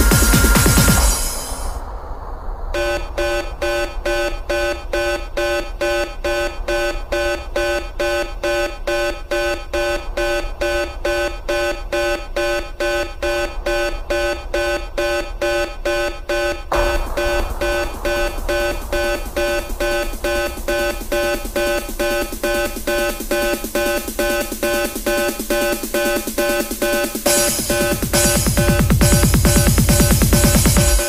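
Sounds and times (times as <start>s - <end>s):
synth beeping electronic music: 0.0s - 1.8s, 2.8s - 31.0s.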